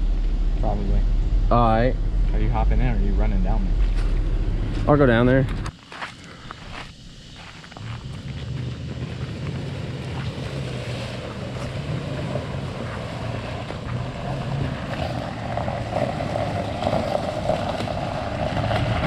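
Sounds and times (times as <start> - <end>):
car engine running: 0.0 - 5.7, 7.7 - 19.0.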